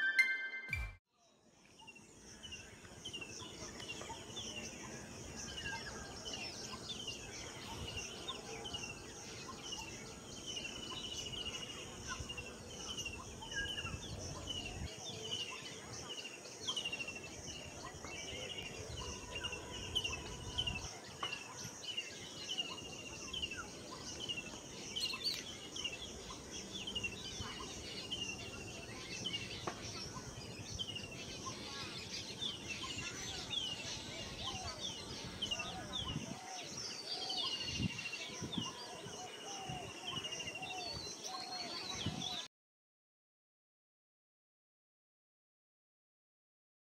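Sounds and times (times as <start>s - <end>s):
low outdoor background noise: 1.1s - 42.5s
birds chirping: 1.7s - 42.5s.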